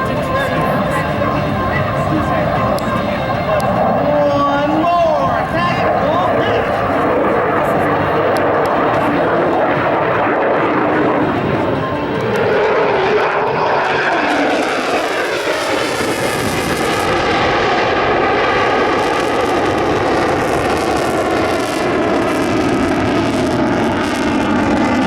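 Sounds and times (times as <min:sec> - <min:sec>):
aircraft engines flying past: 0:00.0 - 0:25.0.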